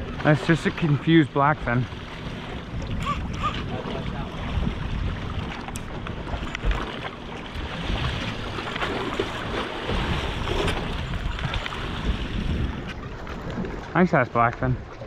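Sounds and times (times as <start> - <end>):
water washing against hull: 0.0 - 15.0
wind buffeting microphone: 0.0 - 15.0.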